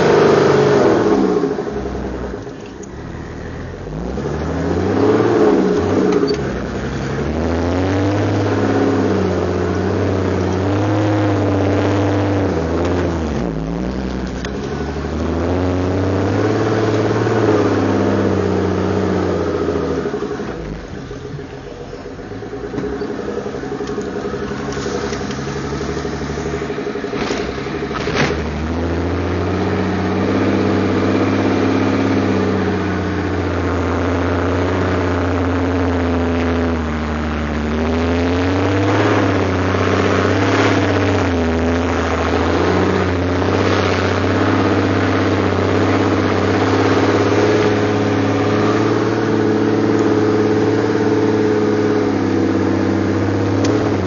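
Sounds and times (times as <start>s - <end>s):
engine running under load: 0.0s - 54.0s.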